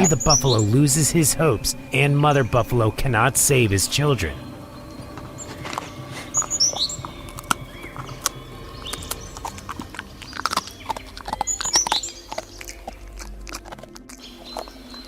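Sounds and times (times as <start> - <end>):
wild dogs twittering chirps: 0.0 - 15.0.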